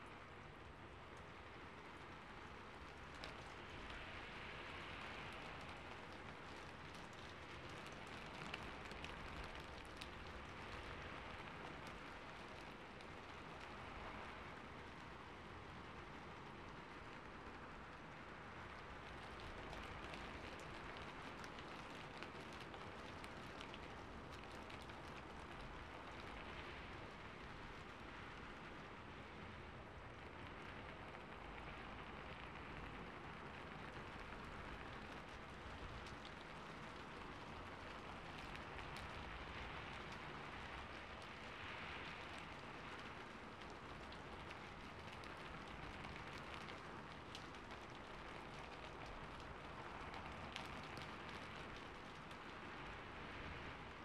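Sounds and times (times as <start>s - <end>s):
rain on a rooftop: 0.0s - 54.0s
raindrop ticks: 0.0s - 54.0s.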